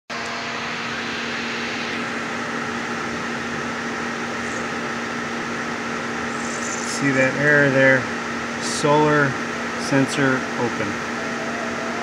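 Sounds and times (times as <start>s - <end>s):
electric motor humming: 0.2s - 12.0s.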